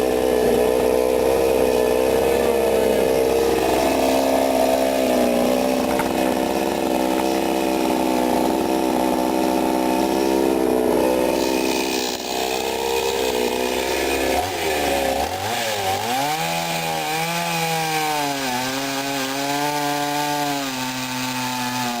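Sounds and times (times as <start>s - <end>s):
chainsaw running at full throttle: 0.0s - 22.0s.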